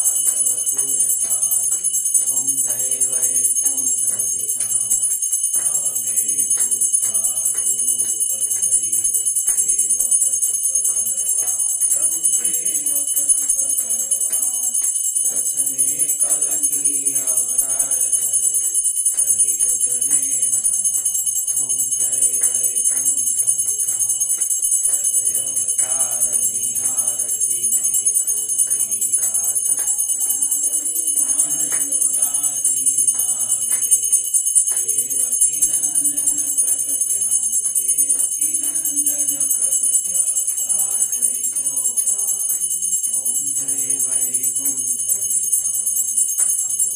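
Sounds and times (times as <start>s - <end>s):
small hand bell ringing: 0.0s - 46.9s
voices singing: 0.0s - 46.9s.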